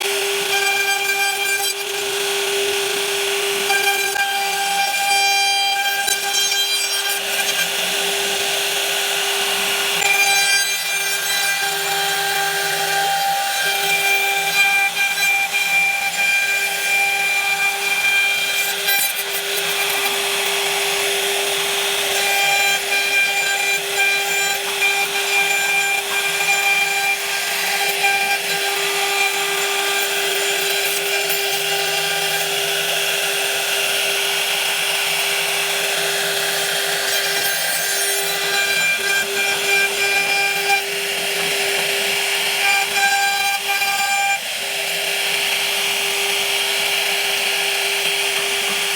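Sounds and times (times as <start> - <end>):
power tool motor whine: 0.0 - 48.9
rasp of cutting wood: 0.0 - 48.9.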